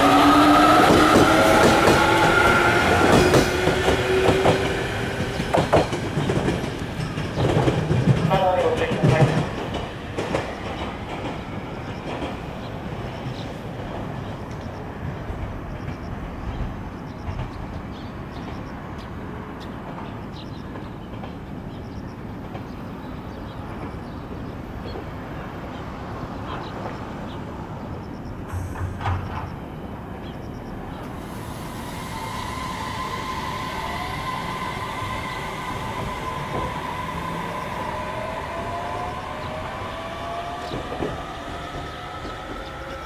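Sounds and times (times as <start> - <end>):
train equipment humming: 0.0 - 43.0.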